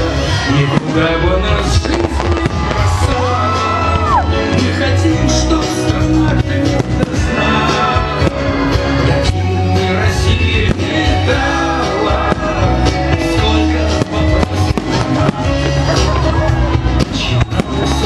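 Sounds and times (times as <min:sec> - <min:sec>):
song with beat bass and singing: 0:00.0 - 0:18.0.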